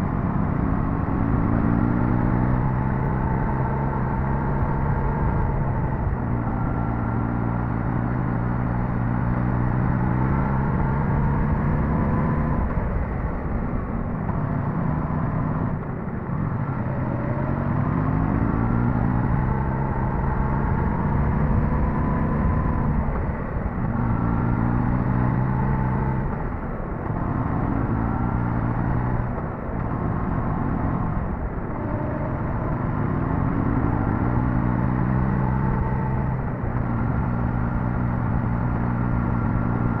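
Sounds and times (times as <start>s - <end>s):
motorcycle engine accelerating: 0.0s - 40.0s
wind and road noise: 0.0s - 40.0s.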